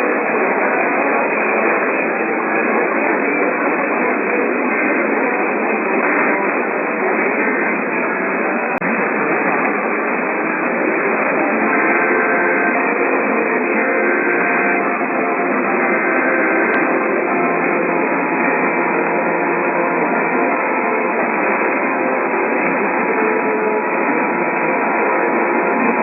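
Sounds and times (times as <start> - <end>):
faint steady tones: 0.0 - 26.0
muffled radio static: 0.0 - 26.0.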